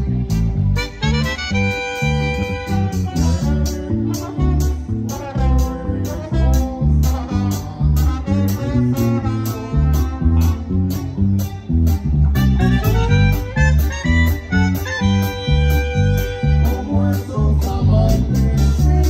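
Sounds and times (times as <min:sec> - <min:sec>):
bass: 0:00.0 - 0:19.0
steady drum beat: 0:00.0 - 0:19.0.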